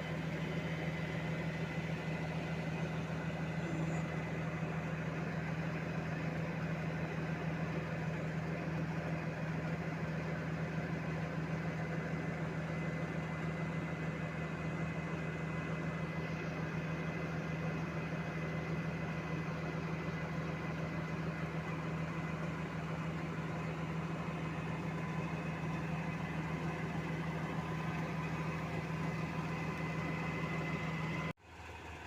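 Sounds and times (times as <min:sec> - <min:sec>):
crane engine droning: 0:00.0 - 0:32.0
thin steady whine: 0:00.0 - 0:32.0.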